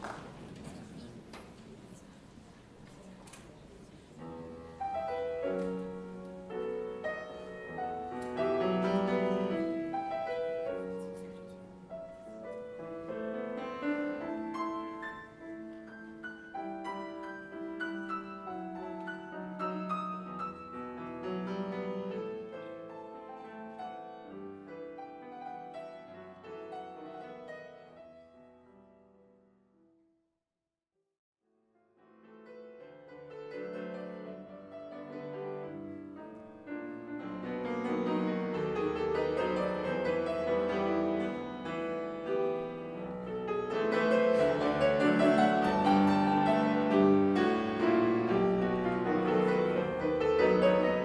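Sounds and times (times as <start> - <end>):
solo piano classical piece: 3.7 - 29.8, 31.7 - 51.0.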